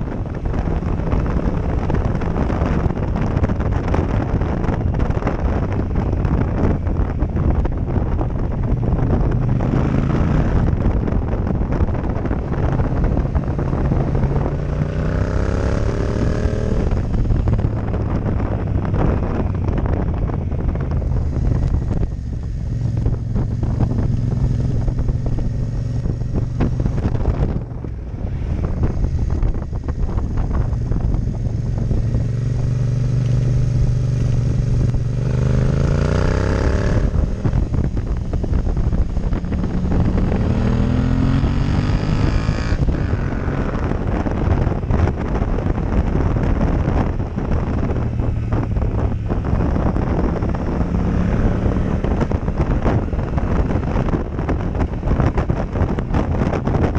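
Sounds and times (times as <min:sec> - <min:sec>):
motorcycle engine revving: 0:00.0 - 0:56.9
wind noise on microphone: 0:00.0 - 0:56.9.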